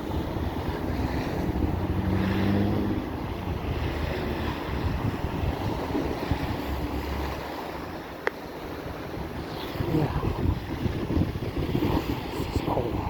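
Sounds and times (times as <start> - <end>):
vehicle engine hum: 0.0 - 13.0
wind buffeting microphone: 0.0 - 13.0.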